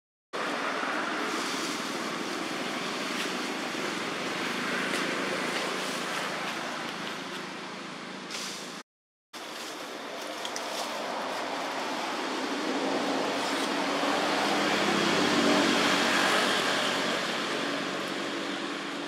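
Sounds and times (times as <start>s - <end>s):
outdoor rushing noise: 0.4s - 8.8s, 9.4s - 19.0s.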